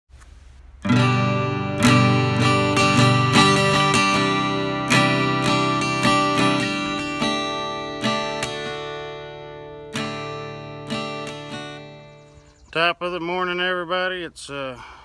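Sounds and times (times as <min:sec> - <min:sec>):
acoustic guitar strumming: 0:00.2 - 0:14.3.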